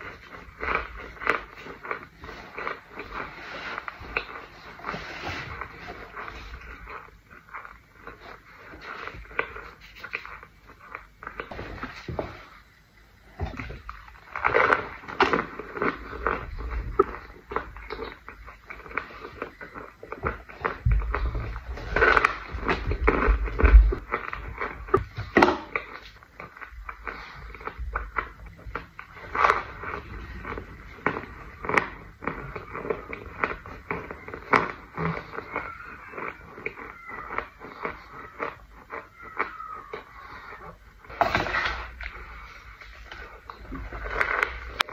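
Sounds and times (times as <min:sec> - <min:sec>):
powder crunching as chewed: 0:00.0 - 0:44.9.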